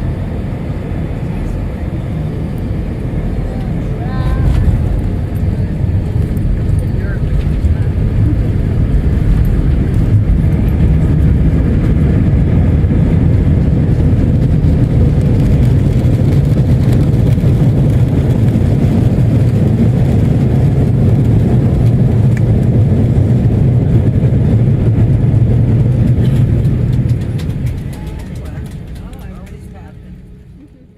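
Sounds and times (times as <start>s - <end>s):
jet engines roaring: 0.0s - 30.8s.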